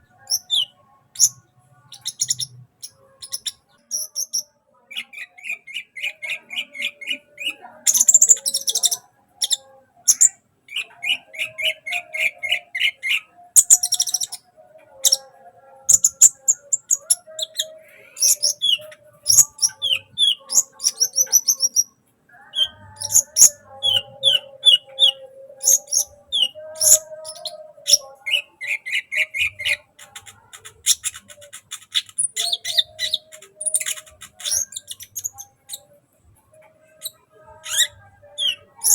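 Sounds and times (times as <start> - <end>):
bird chirping and trilling: 0.1 - 15.3, 15.9 - 36.0, 36.8 - 38.9.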